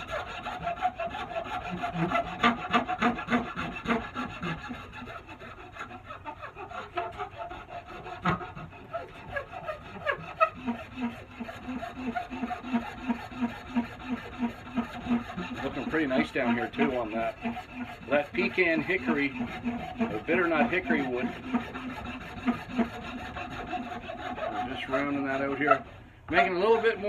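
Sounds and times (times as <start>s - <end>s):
file rasping on wood: 0.0s - 27.0s.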